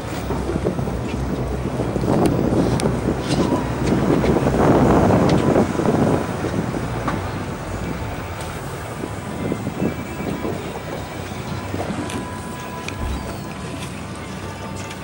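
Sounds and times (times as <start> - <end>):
water washing around boat: 0.0 - 15.0
wind on microphone: 0.0 - 15.0.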